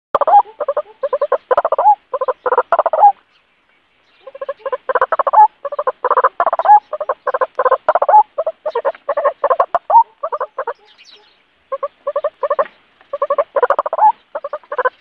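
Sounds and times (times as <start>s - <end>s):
bird calling harsh notes: 0.2s - 3.2s, 4.2s - 15.0s.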